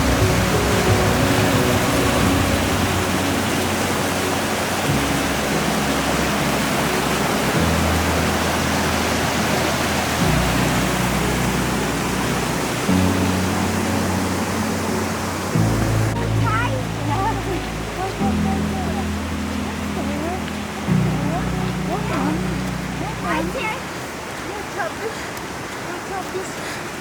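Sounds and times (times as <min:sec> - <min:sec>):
soft background music chords: 0:00.0 - 0:23.8
waterfall rushing: 0:00.0 - 0:27.0.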